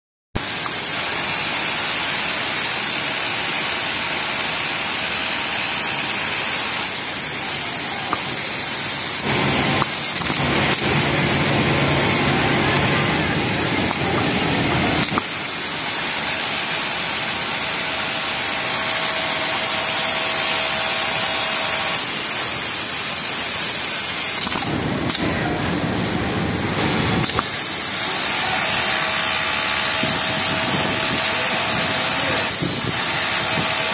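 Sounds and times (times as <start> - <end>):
industrial sewing machine running: 0.4 - 33.9.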